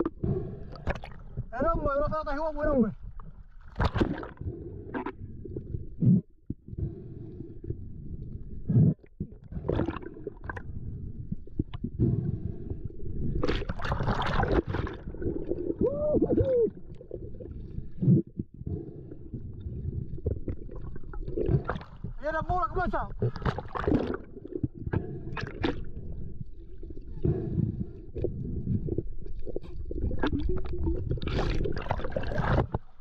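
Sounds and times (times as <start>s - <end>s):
rush of bubbling: 0.0s - 1.5s, 3.0s - 6.2s, 8.7s - 22.3s, 23.0s - 33.0s
muffled underwater water rumble: 0.0s - 33.0s.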